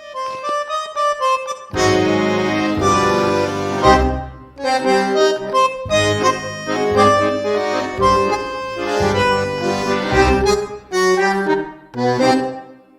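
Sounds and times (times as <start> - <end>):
accordion music: 0.0 - 12.9.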